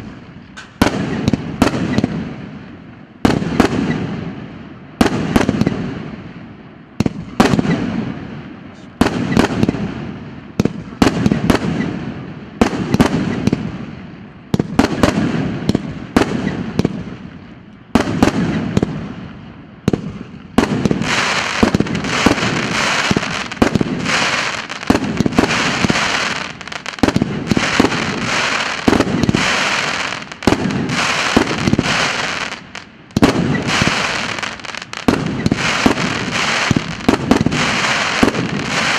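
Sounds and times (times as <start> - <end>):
fireworks bangs: 0.0 - 6.4, 7.0 - 38.9
continuous hiss: 0.0 - 38.9.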